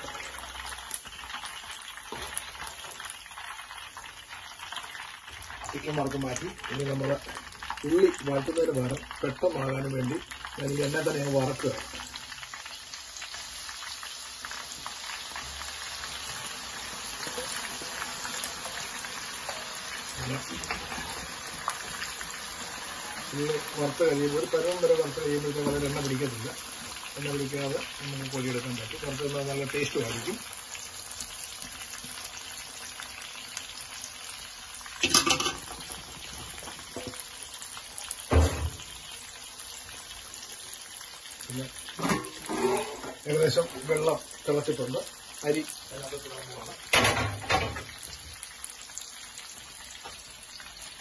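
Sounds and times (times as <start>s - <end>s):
onions sizzling in hot oil: 0.0s - 51.0s.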